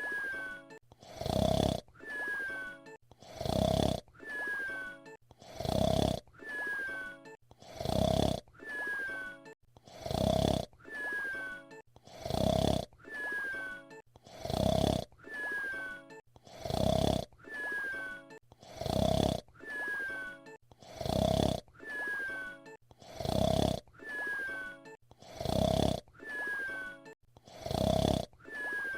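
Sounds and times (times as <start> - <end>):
cartoon whistle snore: 0.0 - 28.9.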